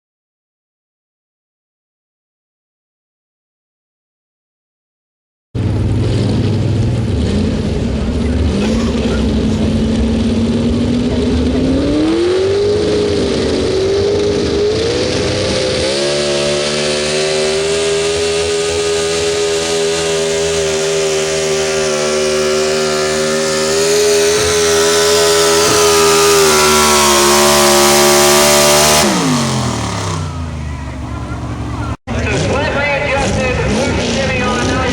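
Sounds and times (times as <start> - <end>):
pulling truck engine at full throttle: 5.6 - 34.9.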